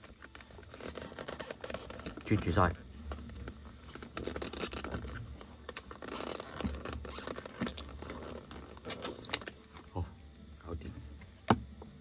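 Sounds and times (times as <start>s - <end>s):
packaging scraping and rustling: 0.0s - 9.8s.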